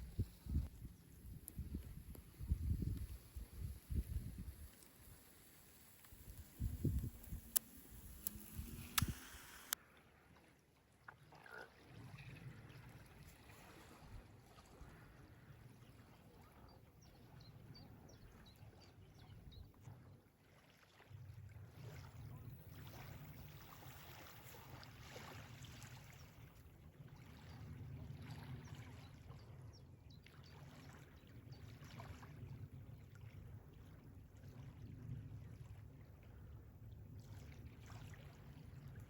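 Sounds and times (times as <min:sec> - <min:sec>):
low rumble by water: 0:00.0 - 0:39.0.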